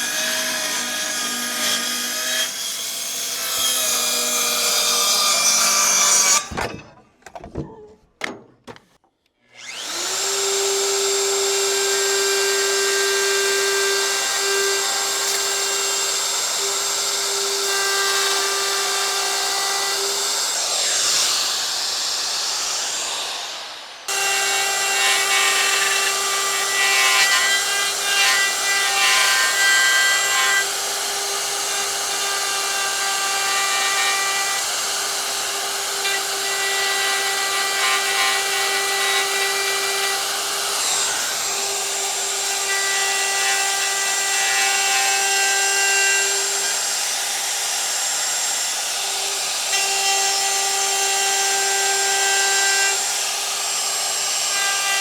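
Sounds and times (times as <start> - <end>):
power saw cutting wood: 0.0 - 6.7, 9.5 - 55.0.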